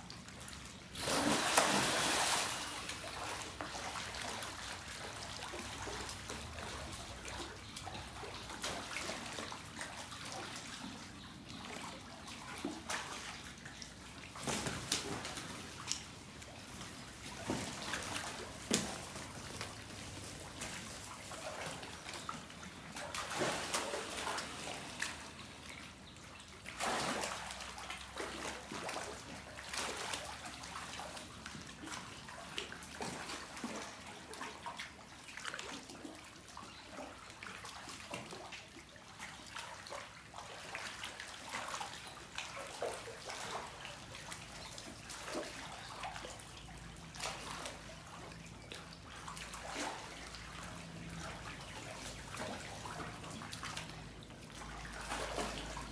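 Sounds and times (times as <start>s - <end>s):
water splashing and sloshing: 0.0s - 55.9s.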